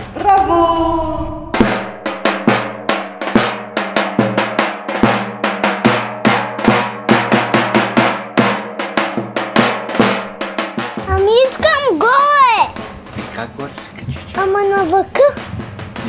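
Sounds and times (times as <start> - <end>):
large folk drum beaten fast: 1.5 - 16.0.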